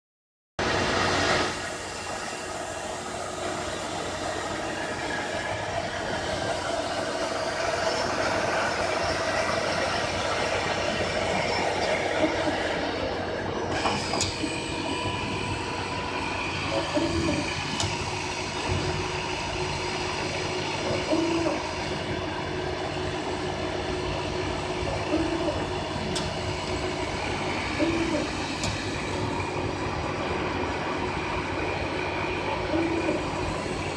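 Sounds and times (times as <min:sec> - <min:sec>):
cnc router running: 0:00.6 - 0:33.9.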